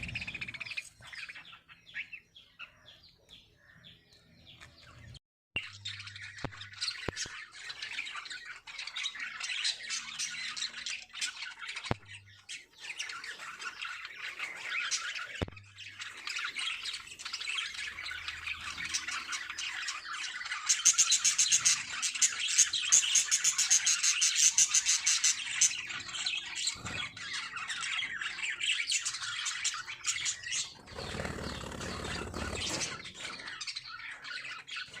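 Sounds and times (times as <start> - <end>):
lovebirds chattering and squawking: 0.0 - 35.0.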